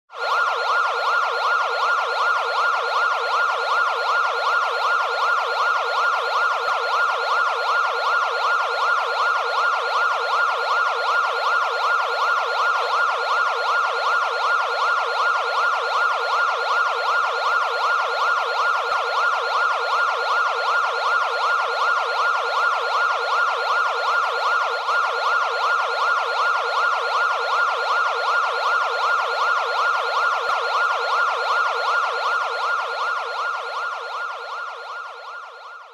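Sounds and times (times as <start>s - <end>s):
emergency vehicle siren sweeping: 0.1s - 35.9s.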